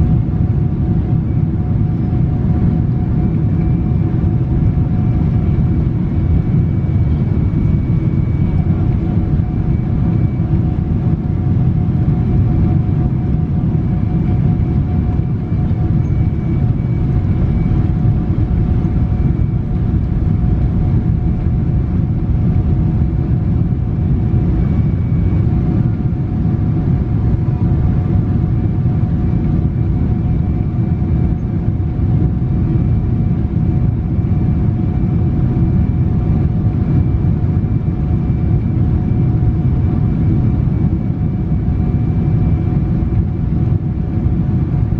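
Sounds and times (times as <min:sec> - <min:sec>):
engine and airflow rumble: 0:00.0 - 0:44.9
faint whining tones: 0:00.0 - 0:44.9.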